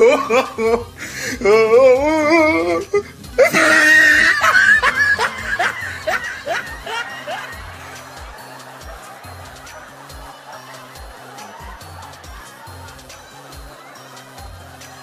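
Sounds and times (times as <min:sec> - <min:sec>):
person laughing: 0:00.0 - 0:15.0.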